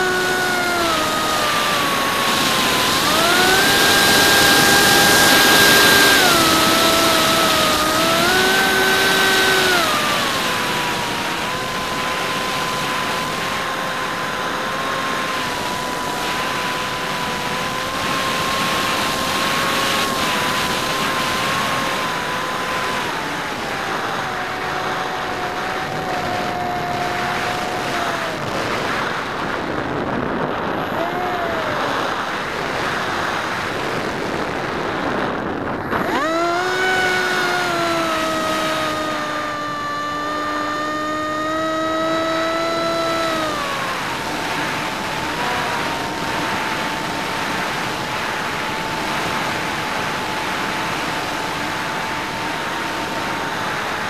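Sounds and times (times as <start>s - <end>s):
electric motor whining: 0.0s - 54.0s
rushing wind: 0.0s - 54.0s.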